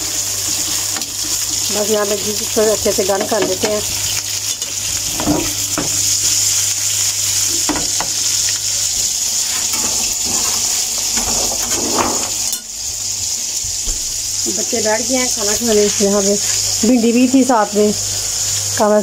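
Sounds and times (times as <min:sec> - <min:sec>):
patties sizzling in oil: 0:00.0 - 0:19.0.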